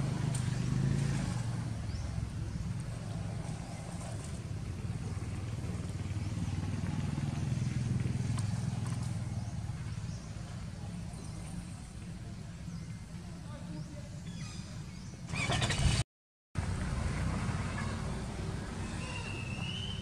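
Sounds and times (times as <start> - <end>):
vehicle engine humming: 0.0 - 14.1, 16.6 - 20.0.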